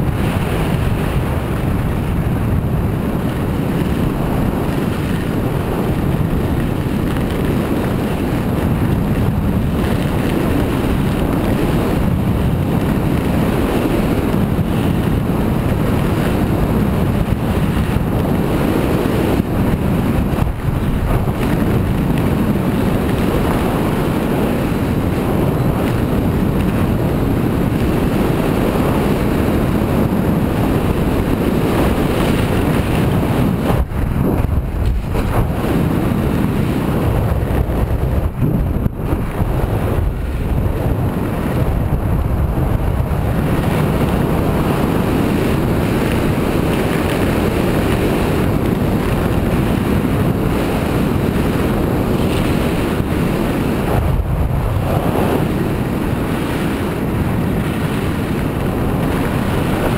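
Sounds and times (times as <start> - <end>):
skis running over snow: 0.0 - 59.9
wind rushing over microphone: 0.0 - 59.9.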